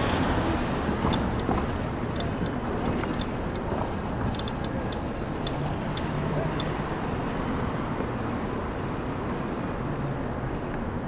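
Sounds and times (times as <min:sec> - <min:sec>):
car engines and road noise: 0:00.0 - 0:11.0.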